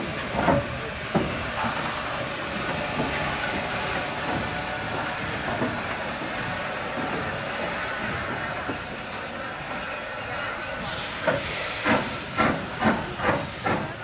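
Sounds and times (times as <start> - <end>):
rail noise: 0.0 - 14.0
steam locomotive hissing: 0.0 - 14.0.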